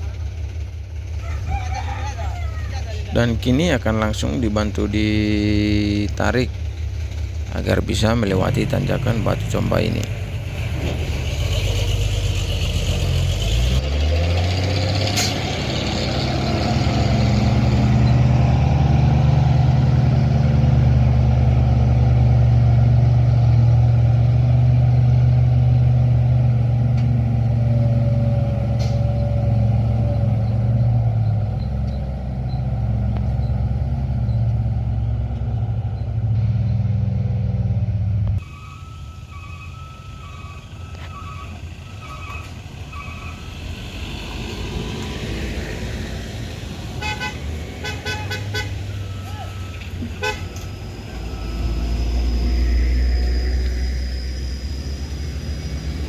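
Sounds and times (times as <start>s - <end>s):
diesel truck engine revving: 2.9s - 56.0s.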